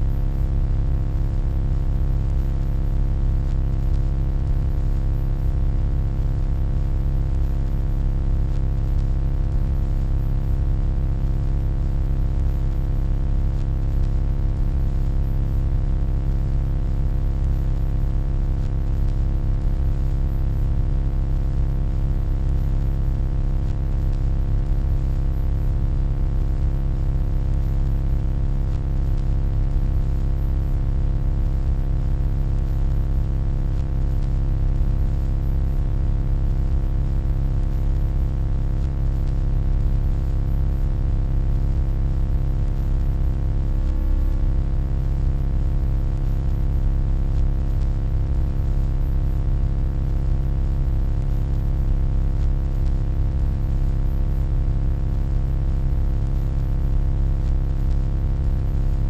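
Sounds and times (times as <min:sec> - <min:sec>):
electronic hum: 0:00.0 - 0:48.8.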